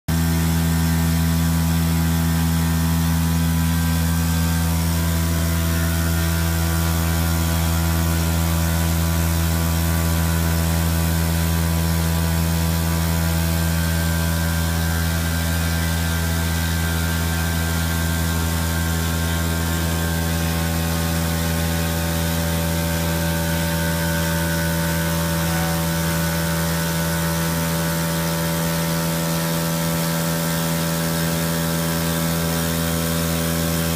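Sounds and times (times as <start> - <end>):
machine spindle humming: 0.2 - 33.9.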